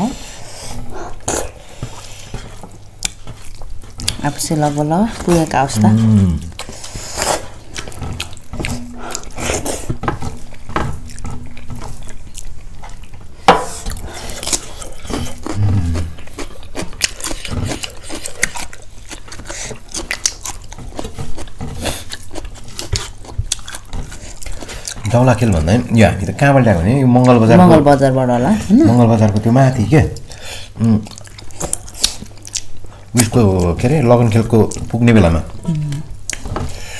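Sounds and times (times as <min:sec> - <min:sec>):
chewing and wet mouth noises: 0:00.9 - 0:27.6, 0:30.1 - 0:35.0, 0:35.6 - 0:36.9.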